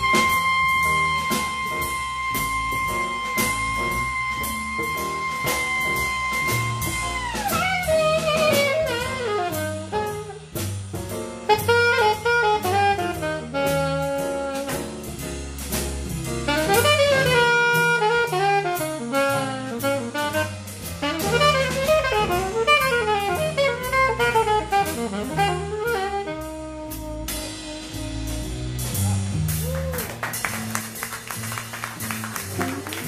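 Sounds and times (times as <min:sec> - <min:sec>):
double bass: 0:00.0 - 0:33.0
drum kit with cymbals: 0:00.0 - 0:33.0
jazz saxophone solo: 0:00.0 - 0:33.0.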